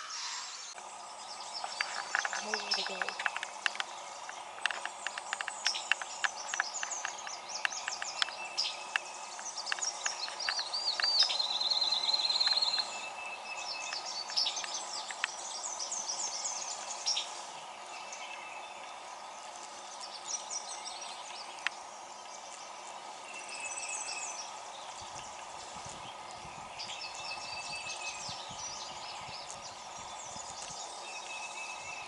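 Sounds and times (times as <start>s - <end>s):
faint background hiss: 0.0s - 32.0s
songbirds singing and calling: 0.0s - 32.0s
rapid bird trill: 1.6s - 32.0s.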